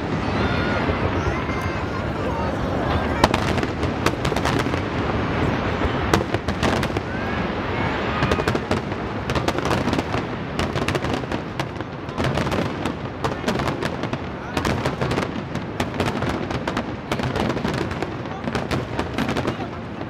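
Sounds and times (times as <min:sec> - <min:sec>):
fireworks bursting: 0:00.0 - 0:20.0
fireworks crackling: 0:00.0 - 0:20.0.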